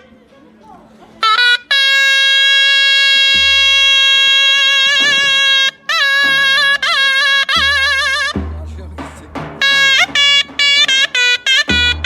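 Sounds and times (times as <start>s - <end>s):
zurna playing: 1.1s - 12.0s.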